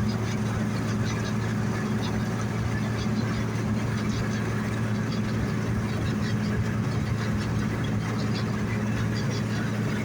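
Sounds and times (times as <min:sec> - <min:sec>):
combine engine drone: 0:00.0 - 0:10.0.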